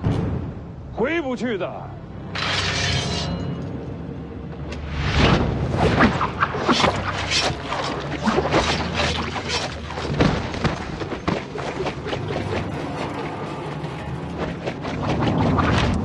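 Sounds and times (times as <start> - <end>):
low droning music: 0.0 - 16.0.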